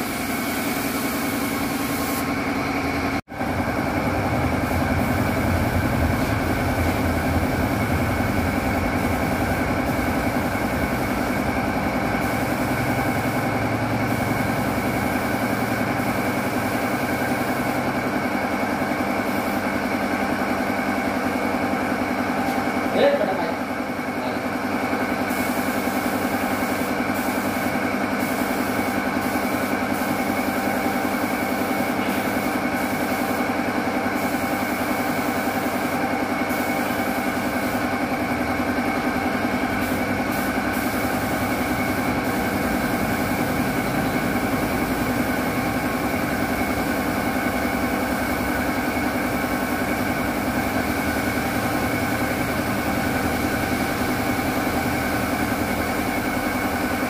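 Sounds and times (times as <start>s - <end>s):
paint spray gun hissing: 0.0s - 23.4s, 24.6s - 57.0s
air compressor motor running: 0.0s - 57.0s.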